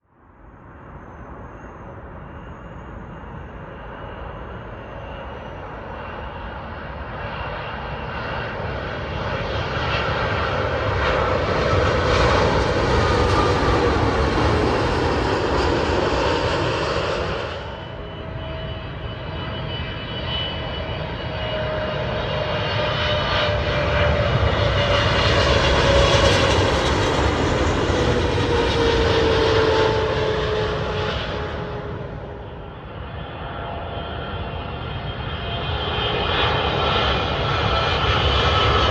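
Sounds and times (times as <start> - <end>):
jet airliner passing overhead: 0.2 - 38.9.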